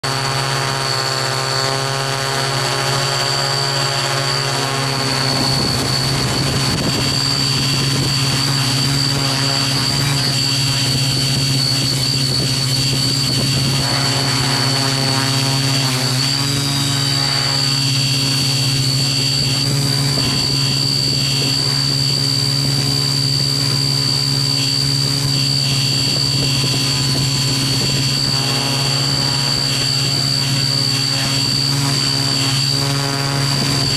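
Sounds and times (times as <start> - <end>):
drone propellers buzzing: 0.0 - 33.9.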